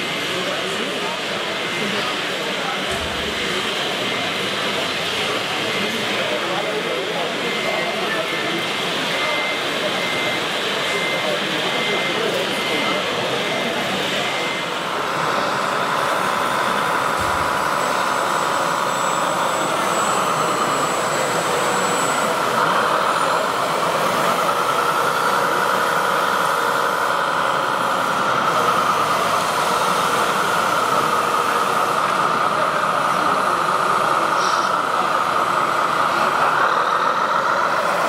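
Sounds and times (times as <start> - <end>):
electric motors whining: 0.0 - 38.0.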